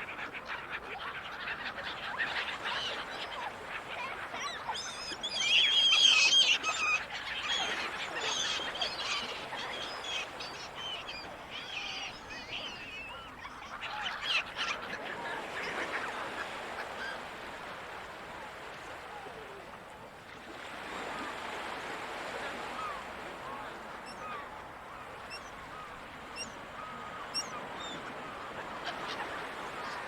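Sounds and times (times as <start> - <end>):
seagulls calling: 0.2 - 17.8, 20.6 - 30.0.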